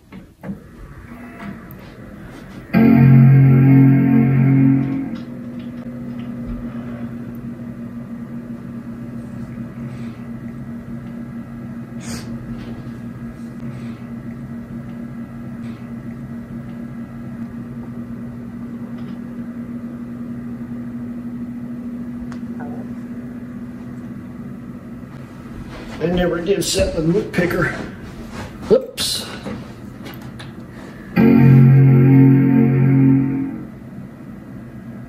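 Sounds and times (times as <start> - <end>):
computer fan and drive hum: 0.0 - 35.0.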